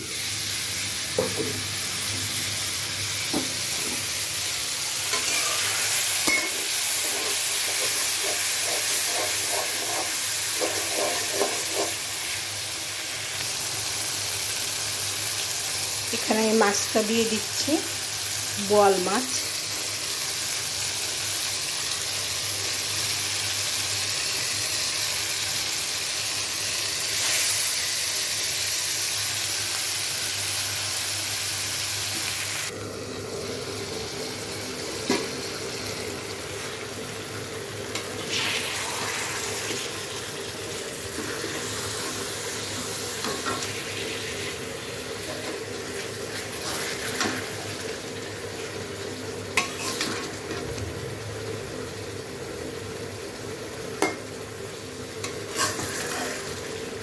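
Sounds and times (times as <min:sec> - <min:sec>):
fish sizzling in a wok: 0:00.0 - 0:57.0.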